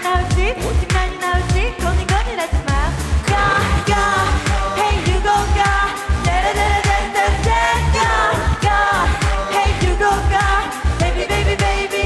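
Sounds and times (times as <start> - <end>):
dance-pop song with steady beat: 0.0 - 12.0
woman singing: 0.0 - 12.0.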